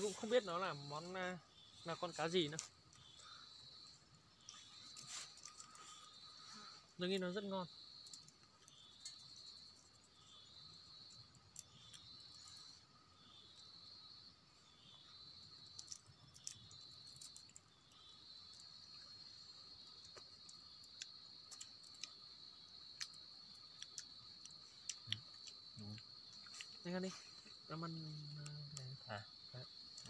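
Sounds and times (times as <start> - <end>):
faint insects trilling: 0.0 - 30.0.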